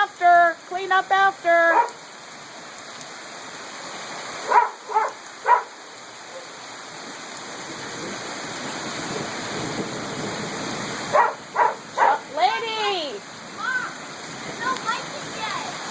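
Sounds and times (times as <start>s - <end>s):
heavy rain pouring: 0.0s - 15.9s.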